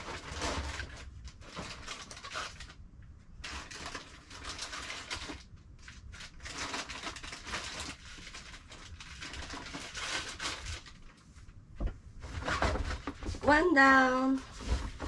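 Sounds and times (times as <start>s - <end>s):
rummaging in a cardboard box: 0.0s - 2.8s, 3.4s - 11.2s, 12.2s - 15.0s.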